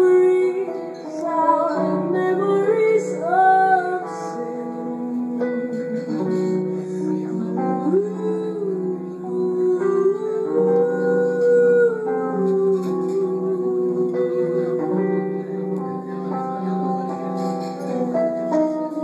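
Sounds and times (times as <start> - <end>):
live band with acoustic guitar: 0.0 - 9.2, 10.0 - 19.0.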